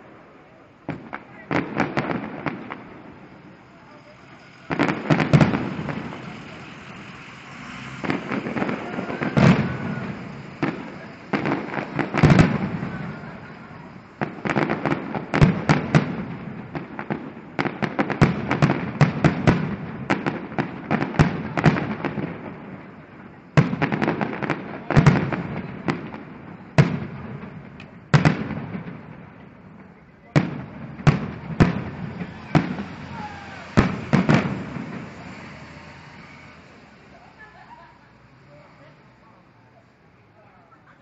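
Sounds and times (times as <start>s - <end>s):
fireworks bangs and crackles: 0.0s - 40.4s.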